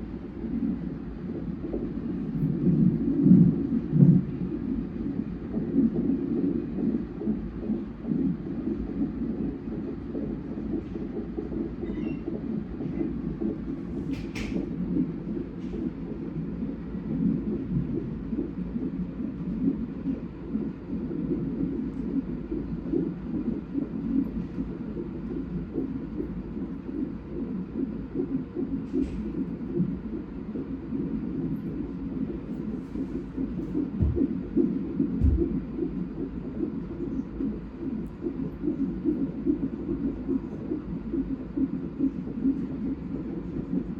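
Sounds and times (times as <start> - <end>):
heartbeat pulsing whoosh: 0.0 - 43.9.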